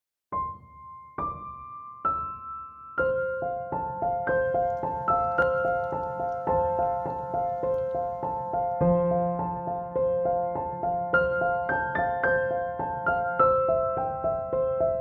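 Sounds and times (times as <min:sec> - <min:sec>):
gentle piano music: 0:00.3 - 0:15.0.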